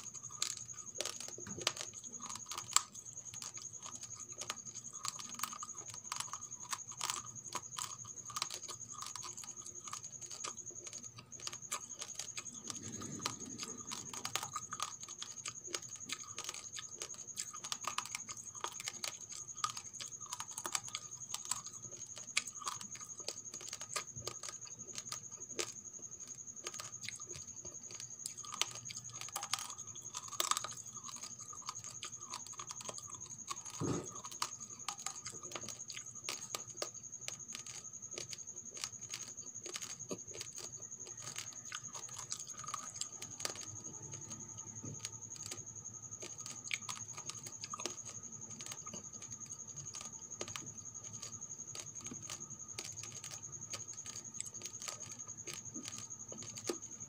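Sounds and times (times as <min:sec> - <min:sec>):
raw rice being chewed: 0:00.0 - 0:57.0.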